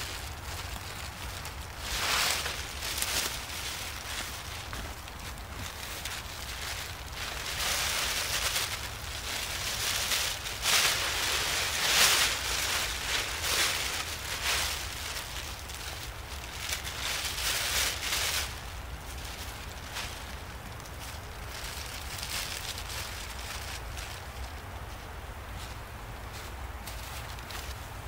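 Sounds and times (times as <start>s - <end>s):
plastic tarp crinkling: 0.0s - 24.8s.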